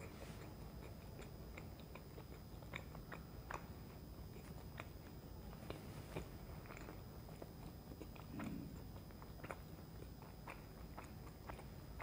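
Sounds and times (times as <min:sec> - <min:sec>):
low hum: 0:00.0 - 0:12.0
wet chewing mouth clicks: 0:00.0 - 0:12.0.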